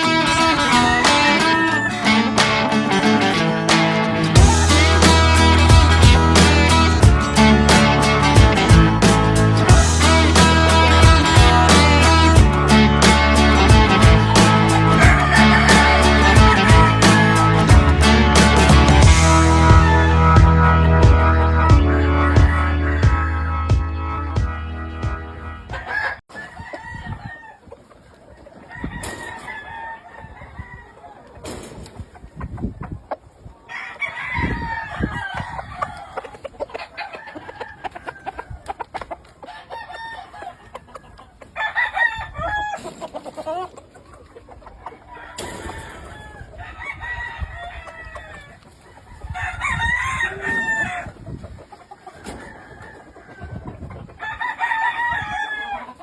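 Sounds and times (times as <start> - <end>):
chicken clucking: 0.0 - 17.8, 19.0 - 23.9, 24.9 - 56.0
roosters crowing: 0.0 - 32.2, 33.5 - 56.0.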